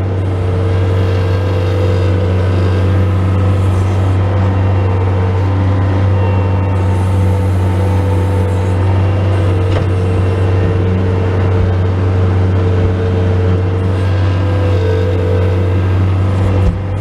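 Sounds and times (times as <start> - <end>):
diesel engine running: 0.0 - 17.0
steady whine: 0.0 - 17.0.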